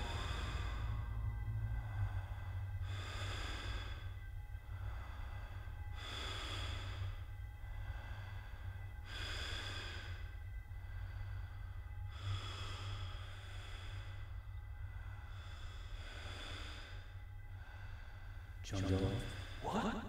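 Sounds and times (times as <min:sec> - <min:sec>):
slow heavy breathing: 0:00.0 - 0:19.7
steady low hum: 0:00.0 - 0:20.0.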